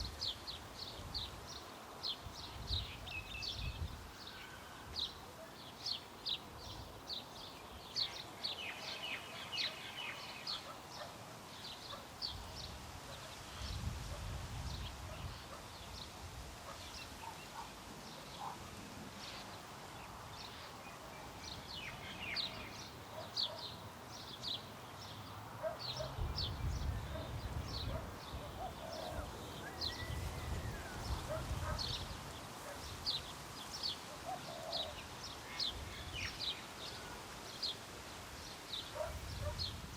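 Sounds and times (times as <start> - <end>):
light wind: 0.0 - 39.9
small birds chirping: 0.0 - 39.9.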